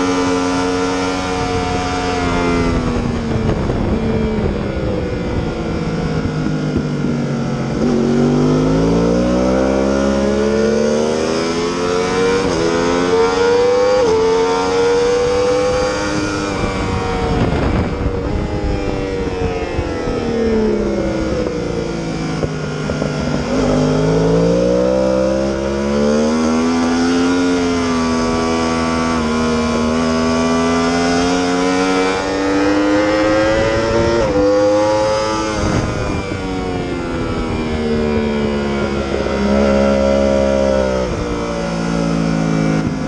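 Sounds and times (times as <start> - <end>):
low wind rush: 0.0 - 43.0
motorcycle engine winding down: 0.2 - 43.0.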